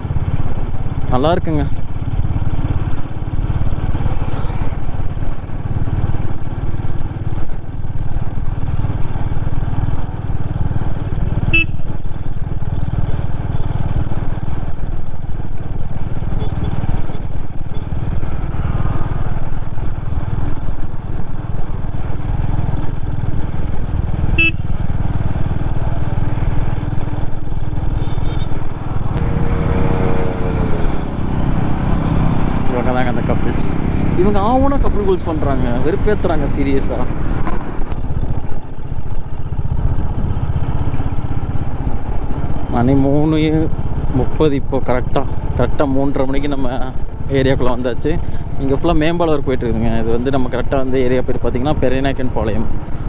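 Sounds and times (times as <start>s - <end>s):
motorcycle engine rumble: 0.0s - 53.0s.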